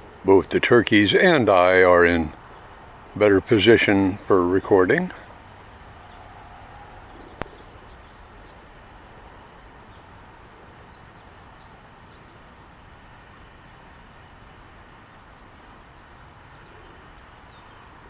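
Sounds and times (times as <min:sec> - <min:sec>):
outdoor background hum: 0:00.0 - 0:18.0.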